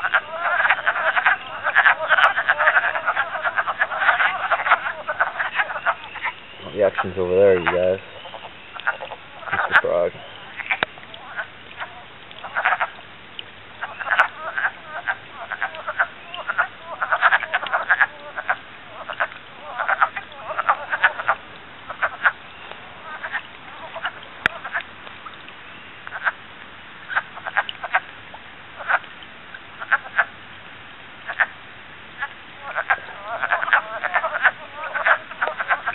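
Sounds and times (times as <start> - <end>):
wood frogs croaking: 0.0 - 30.6, 31.2 - 35.9.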